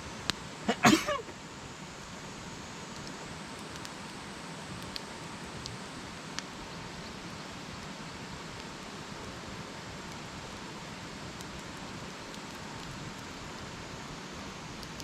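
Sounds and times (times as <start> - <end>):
campfire hissing: 0.0 - 15.0
fire crackles and pops: 0.0 - 15.0.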